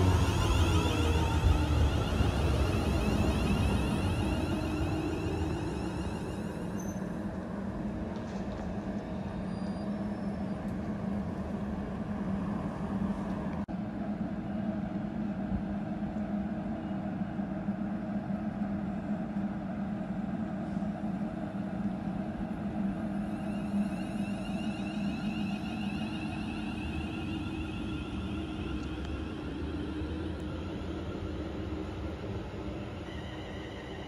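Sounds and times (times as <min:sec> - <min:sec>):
train humming steadily: 0:00.0 - 0:34.0.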